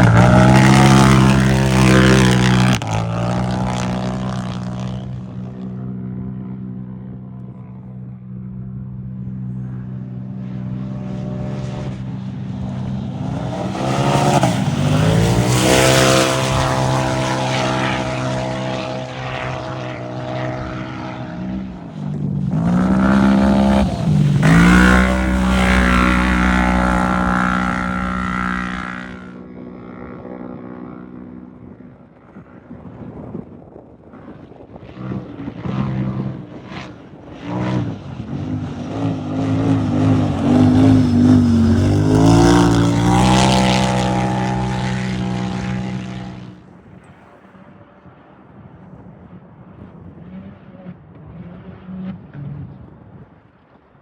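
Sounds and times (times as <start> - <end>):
racing engines at high revs: 0.0 - 5.8, 8.6 - 32.4, 34.8 - 46.7, 50.1 - 53.4.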